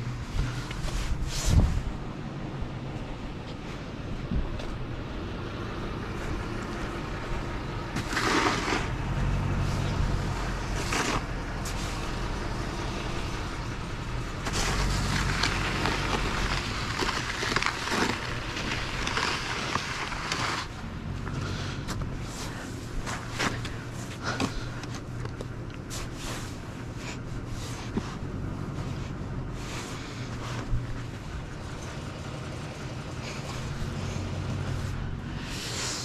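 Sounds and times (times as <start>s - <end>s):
pickup engine running: 0.0s - 36.0s.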